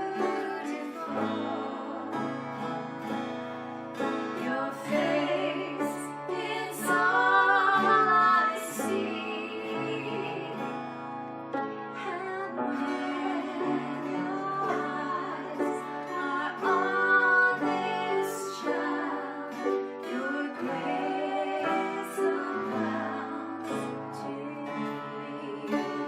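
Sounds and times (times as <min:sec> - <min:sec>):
woman singing worship song: 0:00.0 - 0:02.4, 0:04.3 - 0:10.9, 0:12.0 - 0:26.0
guitar accompaniment: 0:00.0 - 0:26.0.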